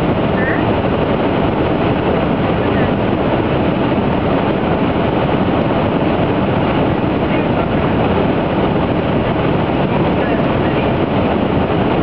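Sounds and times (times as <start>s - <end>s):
rushing noise inside car: 0.0s - 12.0s.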